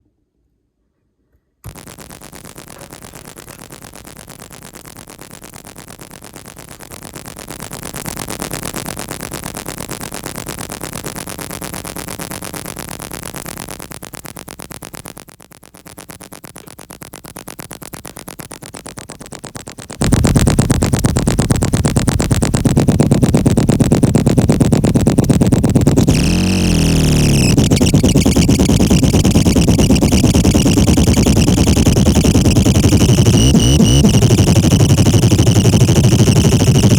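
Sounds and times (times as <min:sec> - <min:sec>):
chaotic stuttering buzzing noise: 0:01.7 - 0:36.9.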